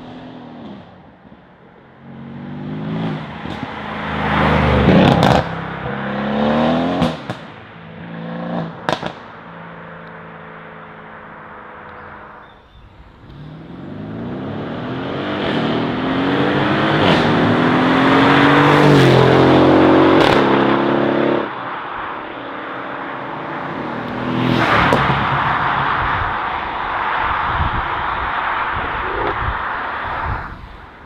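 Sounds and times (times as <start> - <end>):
sports car engine accelerating: 1.9 - 9.2, 9.8 - 22.0, 22.6 - 29.6.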